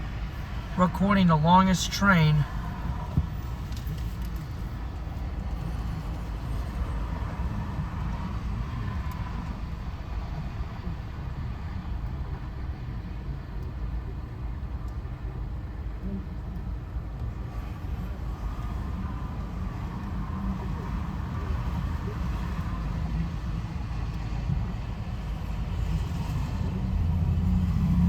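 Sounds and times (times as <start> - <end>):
train passing rumble: 0.0 - 13.6, 16.3 - 28.0.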